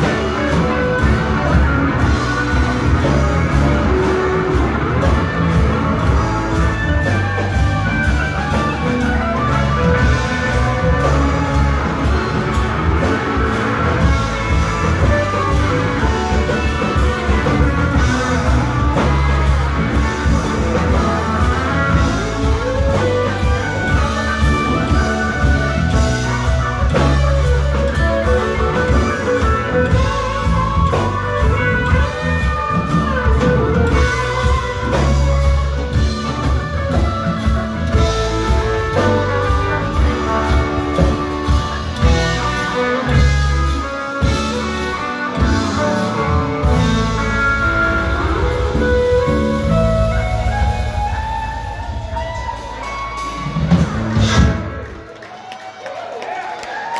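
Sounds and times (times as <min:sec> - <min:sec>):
rock band playing: 0:00.0 - 0:56.9.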